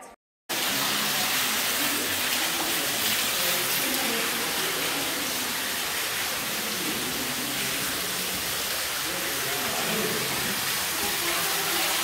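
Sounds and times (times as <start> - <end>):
waterfall splashing onto rock: 0.5 - 12.0.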